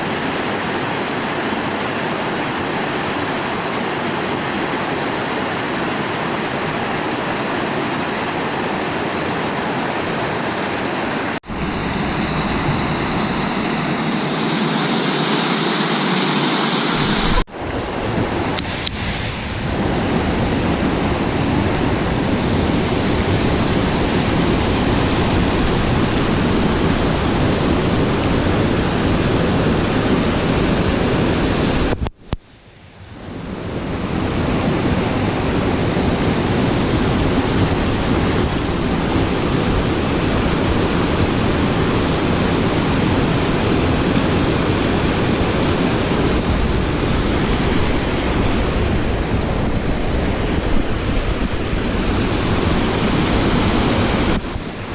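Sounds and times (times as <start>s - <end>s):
rushing water: 0.0s - 54.9s.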